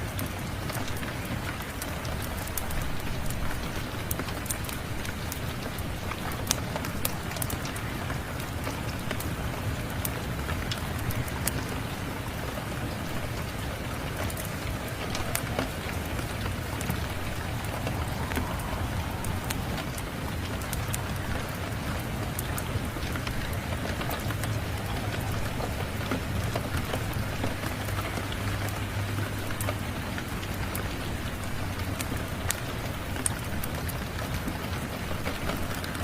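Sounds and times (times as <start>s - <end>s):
steady rain: 0.0s - 36.0s
wood fire crackling: 0.0s - 36.0s.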